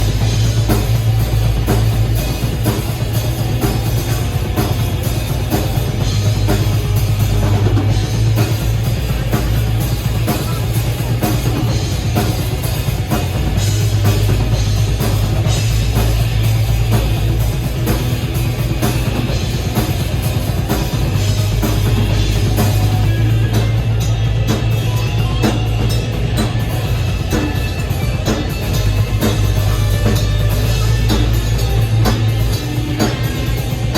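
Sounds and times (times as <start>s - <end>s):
fast dense drumming: 0.0s - 33.9s
loud punk metal music: 0.0s - 33.9s.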